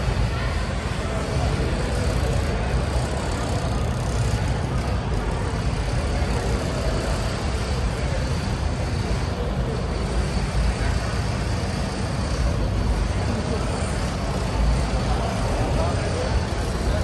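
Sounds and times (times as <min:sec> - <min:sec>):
faint indistinct voices: 0:00.0 - 0:17.0
low rumbling hall din: 0:00.0 - 0:17.0.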